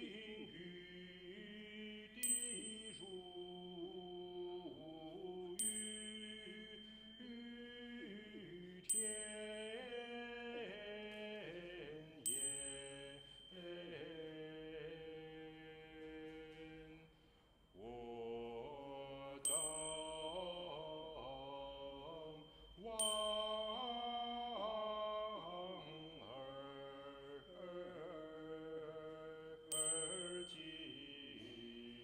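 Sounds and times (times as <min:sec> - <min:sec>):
choir singing chant-like notes: 0:00.0 - 0:17.1, 0:17.8 - 0:32.0.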